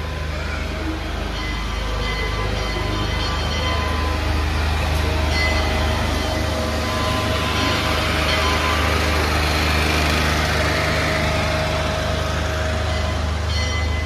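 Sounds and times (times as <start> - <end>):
steady whining tones: 0.0 - 14.0
train machine hum: 0.0 - 14.0.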